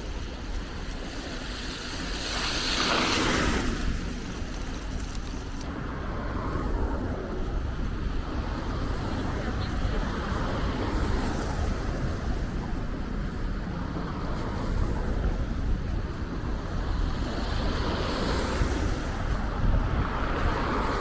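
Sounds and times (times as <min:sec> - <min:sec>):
city street traffic hum: 0:00.0 - 0:21.0
wind buffeting microphone: 0:00.0 - 0:21.0.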